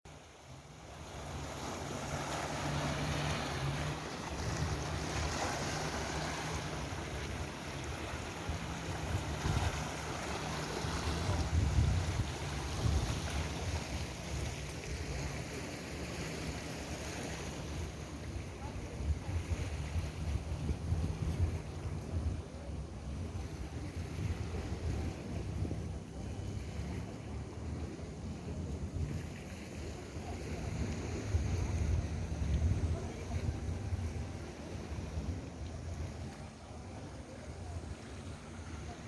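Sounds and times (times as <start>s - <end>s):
sea waves: 0.0s - 39.0s
wind buffeting microphone: 2.7s - 16.5s, 17.6s - 39.0s.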